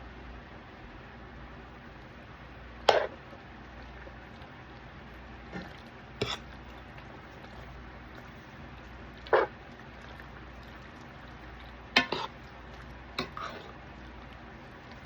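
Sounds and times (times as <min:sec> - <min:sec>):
sauce plopping into skillet: 0:02.9 - 0:15.0.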